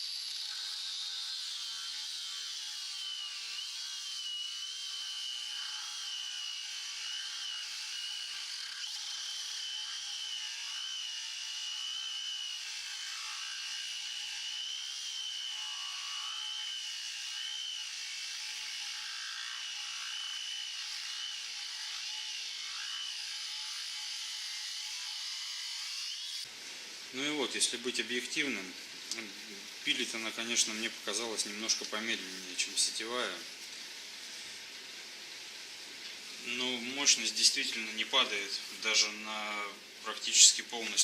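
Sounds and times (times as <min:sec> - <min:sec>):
angle grinder cutting steel: 0:00.0 - 0:26.5, 0:27.1 - 0:41.0.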